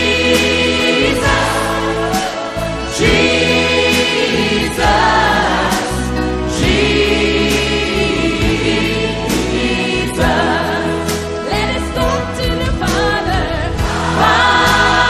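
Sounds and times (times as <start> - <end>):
choir-like voices: 0.0 - 15.0
sustained instrumental chords: 0.0 - 15.0.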